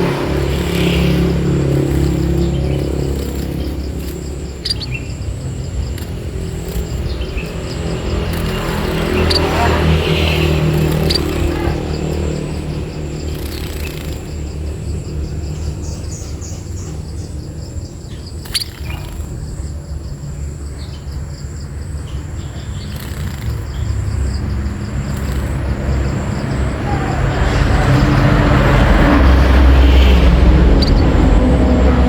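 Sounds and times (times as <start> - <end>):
low engine rumble: 0.0 - 32.0
small birds chirping: 0.0 - 32.0.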